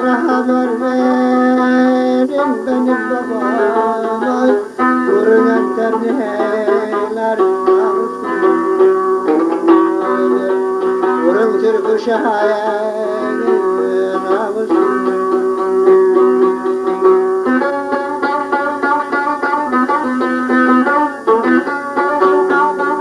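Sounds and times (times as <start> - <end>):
plucked string folk melody: 0.0 - 23.0.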